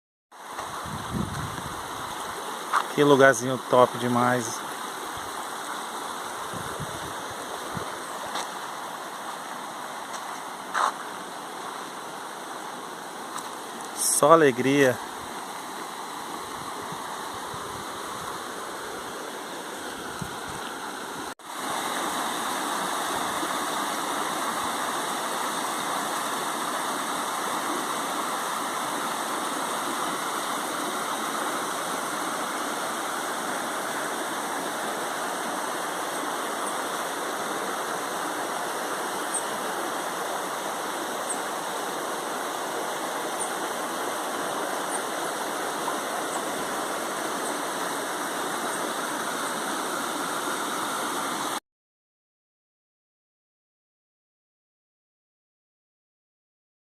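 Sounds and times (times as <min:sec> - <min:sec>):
waterfall rushing: 0:00.4 - 0:51.6.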